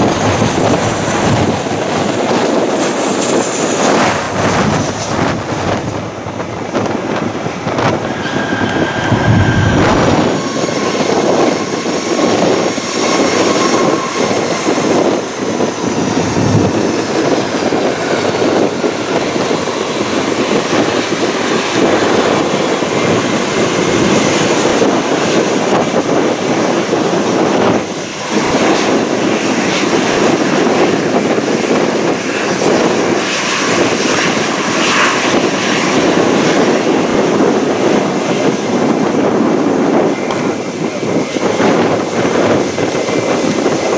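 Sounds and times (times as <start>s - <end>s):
jet airliner engine noise: 0.0s - 43.9s.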